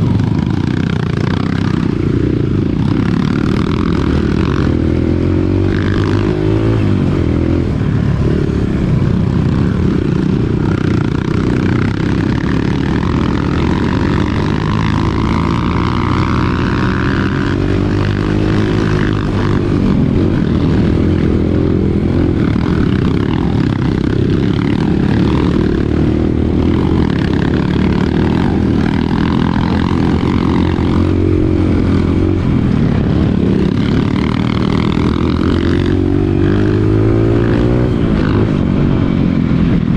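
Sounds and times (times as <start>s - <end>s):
dirt bike engine revving: 0.0s - 39.8s.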